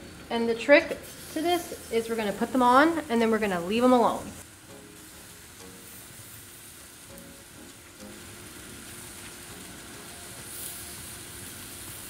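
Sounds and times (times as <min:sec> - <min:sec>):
skewers sizzling on a grill: 0:00.0 - 0:12.0
soft background music: 0:00.0 - 0:12.0.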